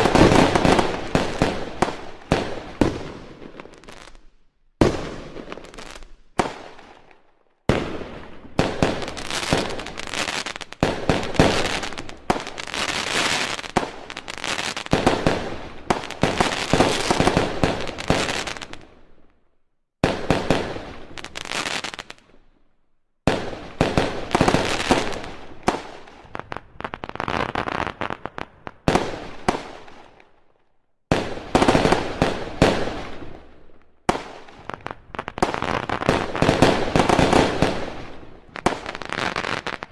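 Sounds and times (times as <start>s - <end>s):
fireworks banging and crackling: 0.0s - 19.0s, 20.0s - 22.3s, 23.3s - 30.3s, 31.1s - 39.9s.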